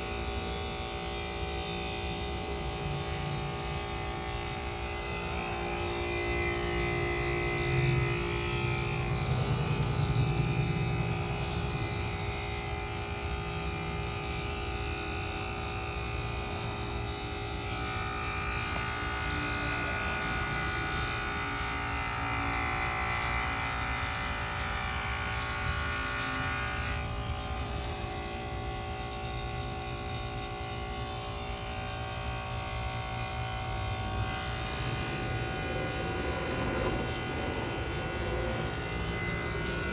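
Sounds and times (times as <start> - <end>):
heat pump humming and buzzing: 0.0 - 39.9.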